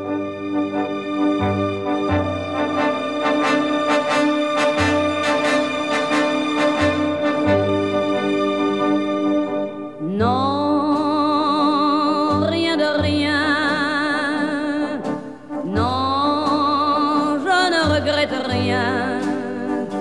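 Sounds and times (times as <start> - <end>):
melody with vibrato: 0.0 - 20.0.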